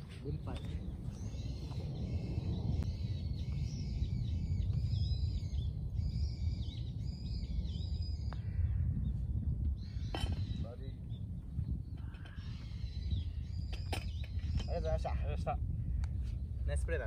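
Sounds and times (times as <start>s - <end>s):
birds chirping: 0.0s - 17.0s
low wind rumble: 0.0s - 17.0s.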